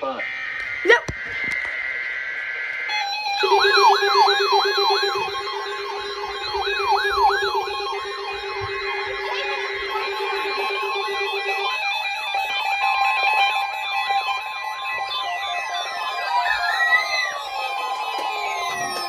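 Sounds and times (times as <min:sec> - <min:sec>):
steady high alarm tone: 0:00.0 - 0:19.0
pulsing lower tone: 0:00.2 - 0:19.0
rising and falling siren wail: 0:02.8 - 0:19.0.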